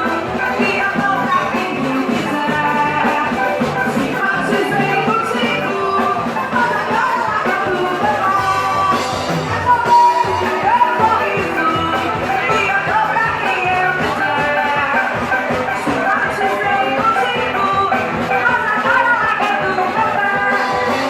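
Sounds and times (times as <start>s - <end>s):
band playing live: 0.0s - 21.0s
drum kit: 0.0s - 21.0s
electric bass: 0.0s - 21.0s.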